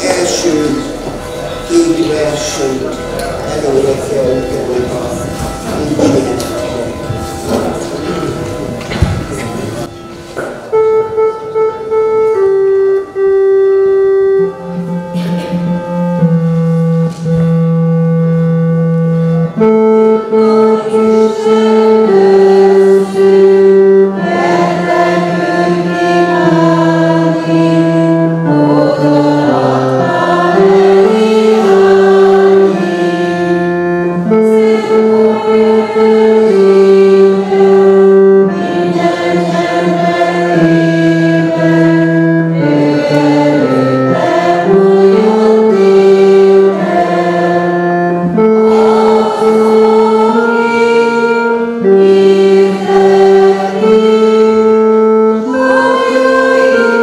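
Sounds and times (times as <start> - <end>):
congregation singing a hymn: 0.0 - 57.0
organ playing held chords: 0.0 - 57.0.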